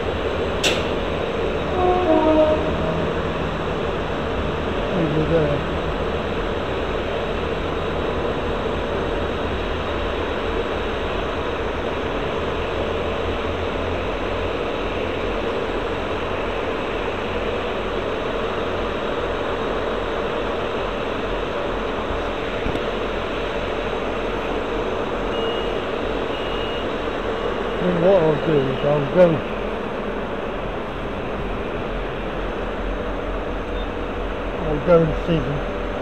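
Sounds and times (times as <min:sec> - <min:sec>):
diesel train running: 0:00.0 - 0:36.0.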